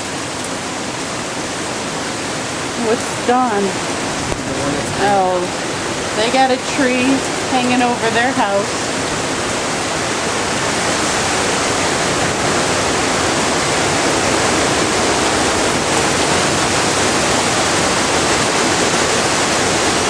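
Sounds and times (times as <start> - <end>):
strong wind buffeting microphone: 3.4 - 20.0.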